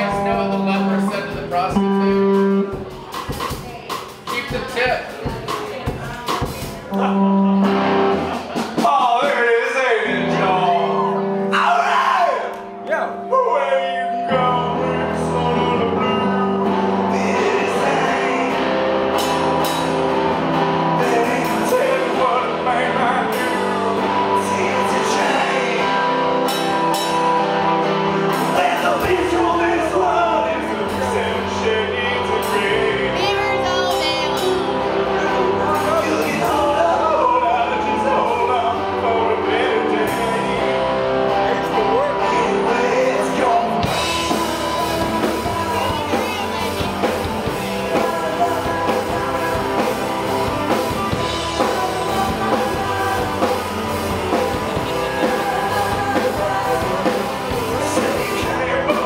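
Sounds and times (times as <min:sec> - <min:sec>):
man singing lead vocal: 0:00.0 - 0:05.3, 0:06.1 - 0:59.0
rock band playing: 0:00.0 - 0:59.0.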